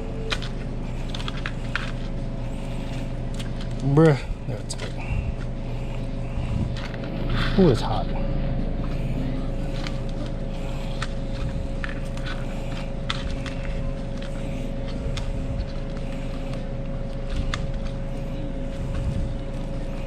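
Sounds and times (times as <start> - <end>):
kitchen equipment hum: 0.0 - 20.0.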